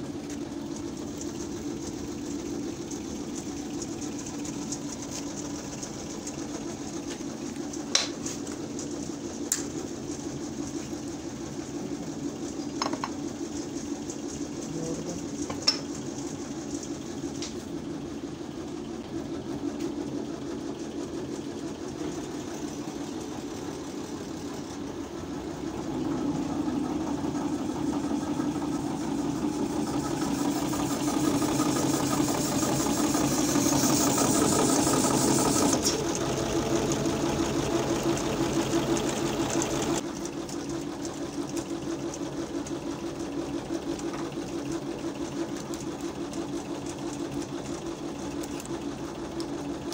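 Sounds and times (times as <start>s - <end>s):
machine motor running: 0.0s - 49.9s.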